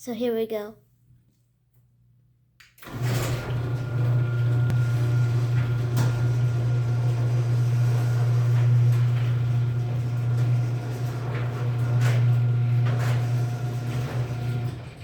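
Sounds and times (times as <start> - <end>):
garage door opener click: 2.8 - 15.0
motor humming: 2.8 - 15.0.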